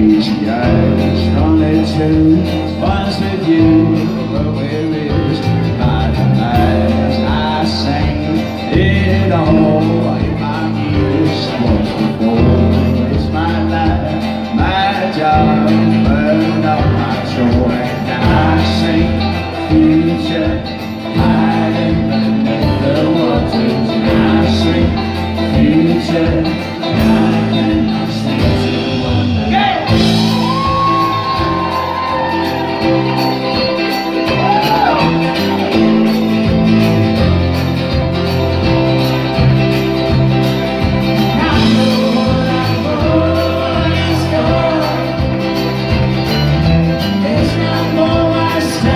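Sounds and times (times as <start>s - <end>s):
live folk-pop band playing: 0.0s - 48.9s.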